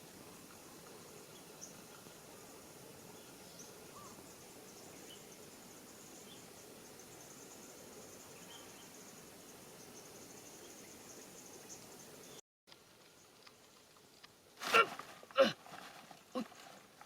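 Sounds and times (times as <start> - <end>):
insects chirring: 0.0 - 14.6
outdoor background noise: 0.0 - 17.0.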